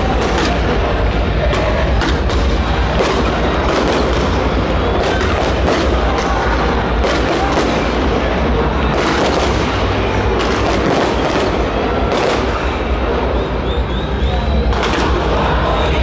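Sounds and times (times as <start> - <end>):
fireworks booming and cracking: 0.0 - 13.6, 14.6 - 16.0.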